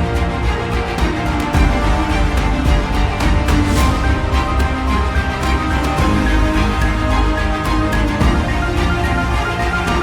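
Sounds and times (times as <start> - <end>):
music with strong bass beat: 0.0 - 10.0.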